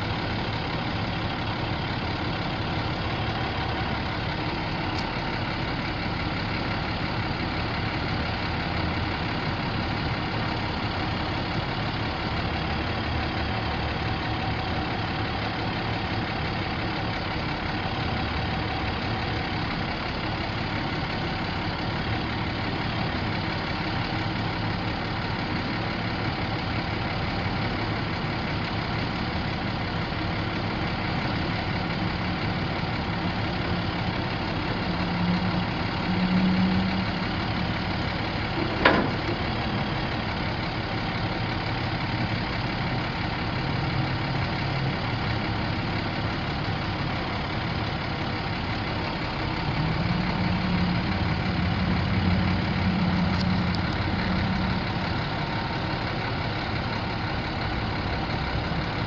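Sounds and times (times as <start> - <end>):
truck diesel engine idling: 0.0 - 59.0.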